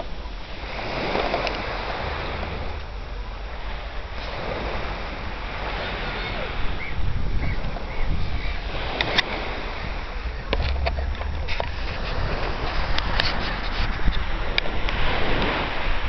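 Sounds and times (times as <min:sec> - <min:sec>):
small waves breaking on beach: 0:00.0 - 0:16.0
wind rumbling on microphone: 0:00.0 - 0:16.0.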